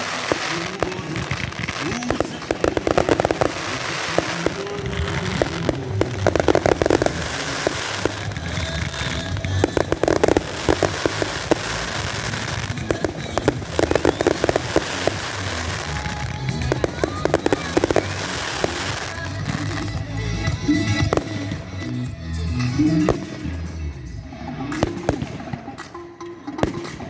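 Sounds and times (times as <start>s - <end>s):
fireworks crackling bangs: 0.0s - 27.0s.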